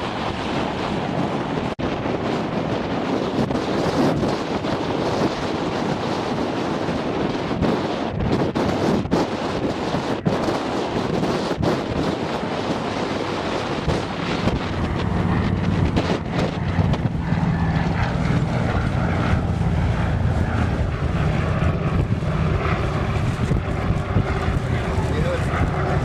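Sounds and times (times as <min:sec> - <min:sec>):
propeller aircraft engine droning: 0:00.0 - 0:26.0
wind buffeting microphone: 0:00.0 - 0:26.0.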